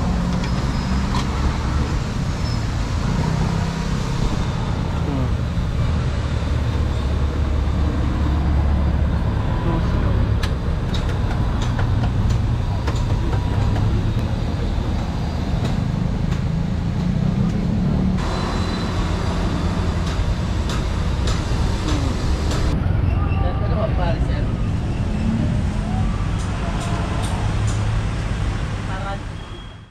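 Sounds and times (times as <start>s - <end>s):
road traffic: 0.0s - 29.9s
vehicle engine rumbling: 0.0s - 29.9s.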